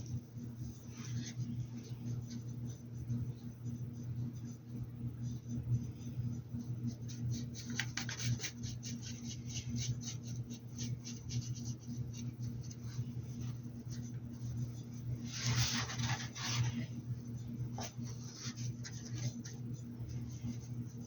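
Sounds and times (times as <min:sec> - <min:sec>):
steady low hum: 0:00.0 - 0:21.0
paintbrush scratching and dabbing: 0:00.6 - 0:21.0.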